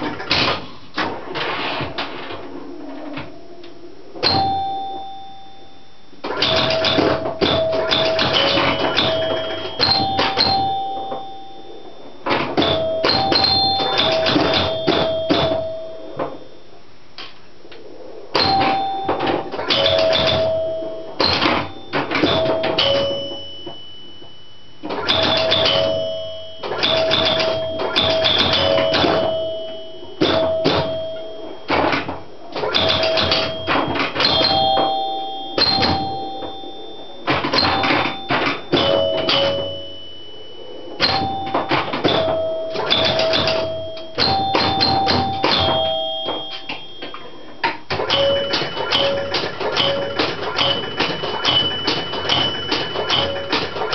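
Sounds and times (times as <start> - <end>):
pinball scoring chimes: 4.2 - 16.7, 18.3 - 53.9.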